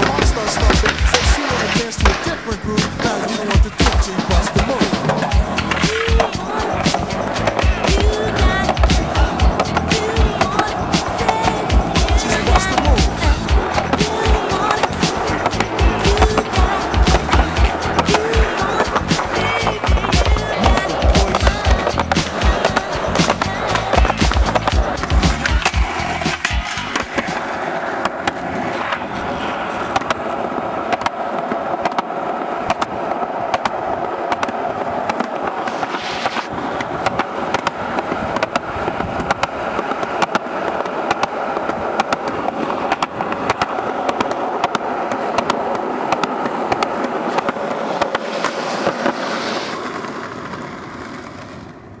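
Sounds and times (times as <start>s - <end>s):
skateboard wheels rolling: 0.0s - 52.0s.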